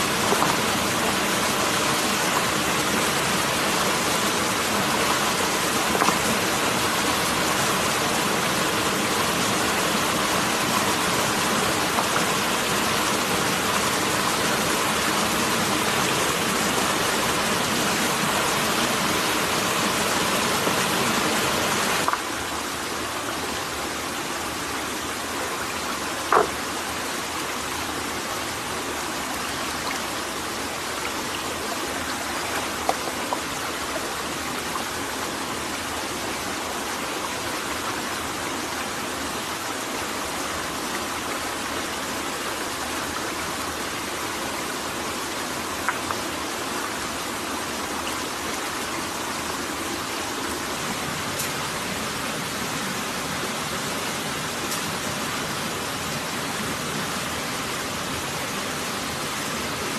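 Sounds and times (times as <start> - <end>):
stream and waterfall rushing: 0.0 - 59.9.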